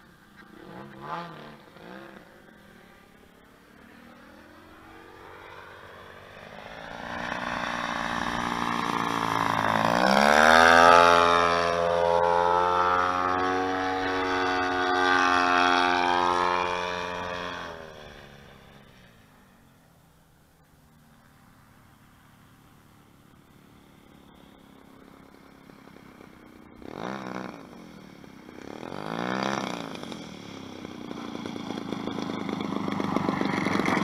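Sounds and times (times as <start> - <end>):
model plane engine and propeller: 0.0 - 34.0.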